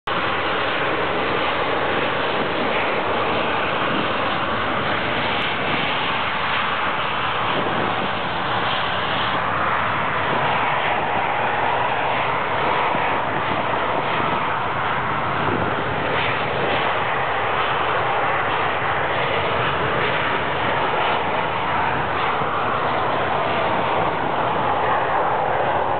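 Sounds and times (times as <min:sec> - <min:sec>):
jet engines at take-off power: 0:00.0 - 0:25.9.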